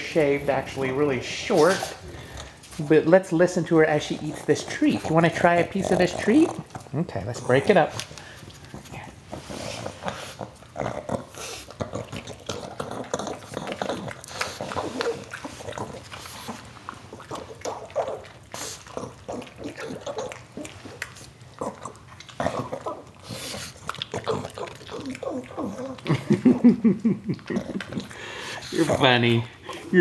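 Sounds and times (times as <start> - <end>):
dog chewing and smacking: 0.0 - 30.0
dog grunting: 3.9 - 7.9, 8.7 - 20.8, 21.6 - 30.0.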